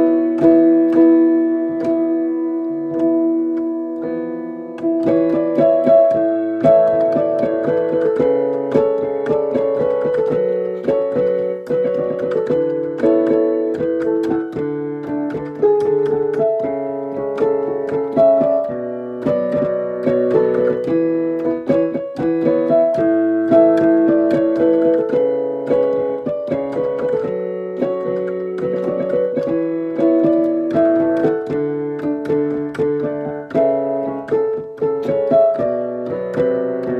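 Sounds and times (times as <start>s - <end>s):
piano melody over chords: 0.0s - 36.9s.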